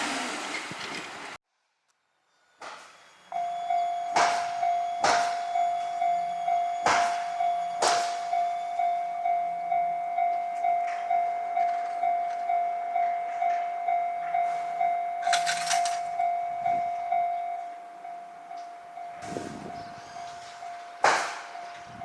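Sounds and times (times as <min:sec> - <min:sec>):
level-crossing warning bell: 0:03.0 - 0:22.0.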